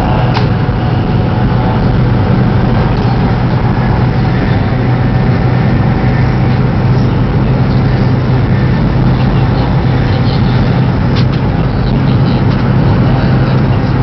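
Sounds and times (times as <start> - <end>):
train low hum: 0.0 - 14.0
train rolling and air rush: 0.0 - 14.0.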